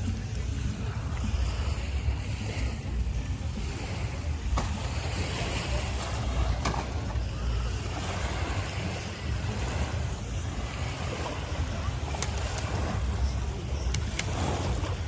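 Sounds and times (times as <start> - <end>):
small waves washing on shore: 0.0 - 15.0
wind buffeting microphone: 0.0 - 15.0.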